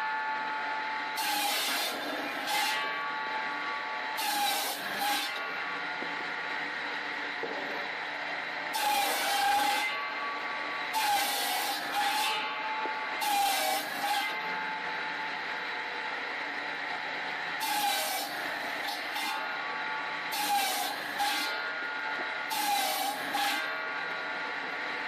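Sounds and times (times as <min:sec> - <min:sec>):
saw blade cutting logs: 0:00.0 - 0:06.2, 0:08.6 - 0:15.4, 0:17.4 - 0:25.0
circular saw running: 0:00.0 - 0:25.0.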